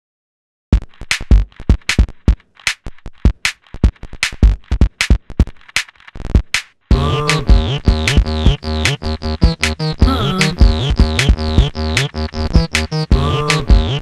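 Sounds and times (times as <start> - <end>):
drum machine beat: 0.7 - 14.0.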